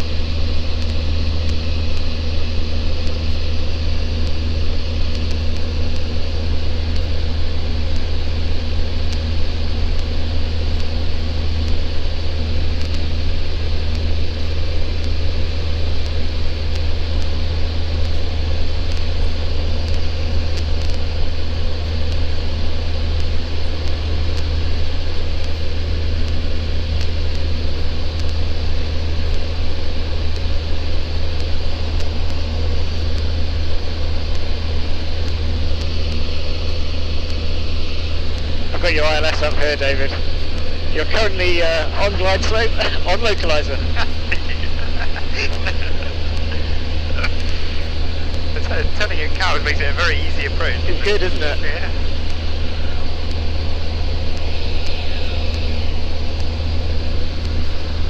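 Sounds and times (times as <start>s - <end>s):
aircraft engine and propeller droning: 0.0s - 58.0s.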